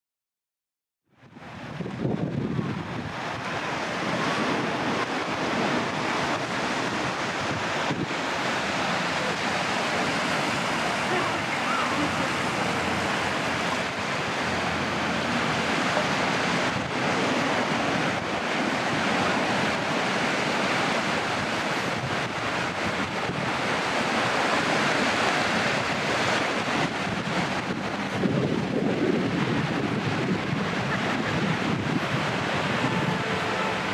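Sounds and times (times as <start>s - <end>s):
wind on microphone: 1.1s - 33.9s
surf washing onto beach: 1.2s - 33.9s.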